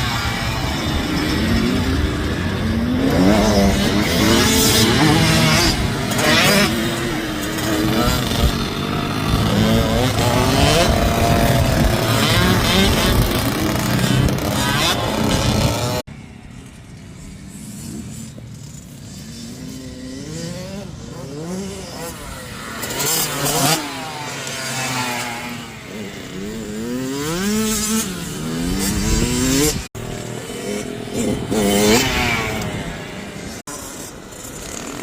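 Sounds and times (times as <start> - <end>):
motocross bikes revving: 0.0 - 16.1, 16.9 - 35.0.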